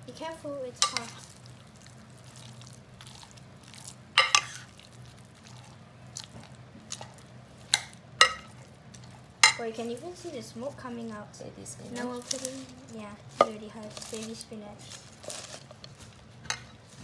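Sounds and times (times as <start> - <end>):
spoon stirring and mashing food: 0.6 - 17.0.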